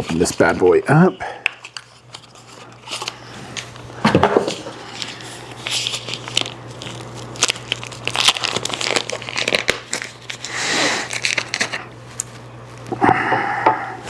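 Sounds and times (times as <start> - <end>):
packaging crinkling: 1.5 - 12.9.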